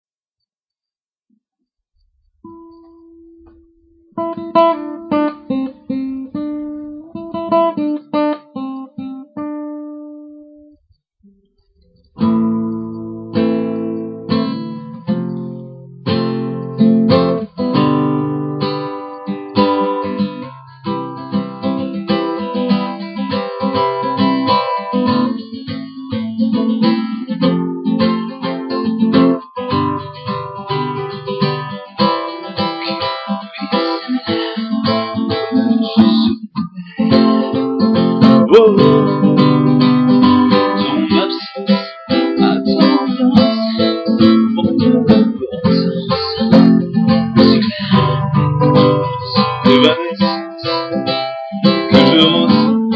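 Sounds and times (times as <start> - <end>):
acoustic guitar playing: 2.0 - 52.9.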